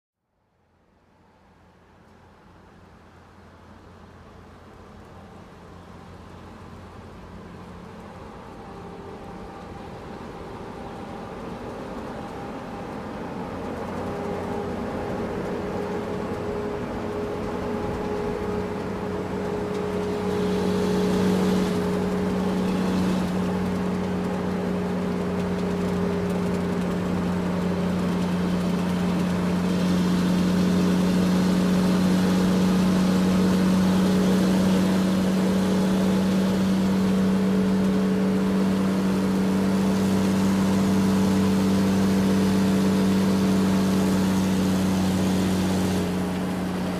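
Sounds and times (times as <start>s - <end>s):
large truck engine humming: 1.7s - 46.9s.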